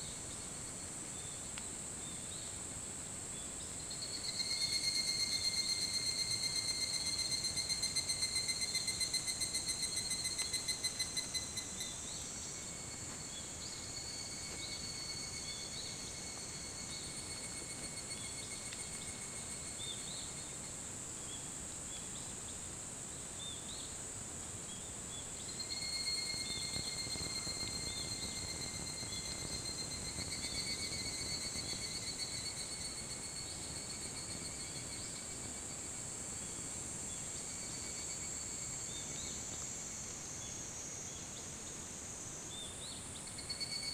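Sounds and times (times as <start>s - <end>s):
cicadas calling: 3.4s - 21.3s, 25.3s - 43.9s.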